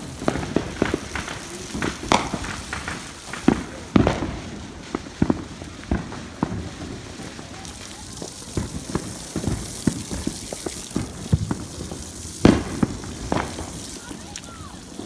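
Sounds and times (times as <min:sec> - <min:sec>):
distant fireworks popping: 0:00.0 - 0:15.0
firework bang: 0:00.0 - 0:15.0.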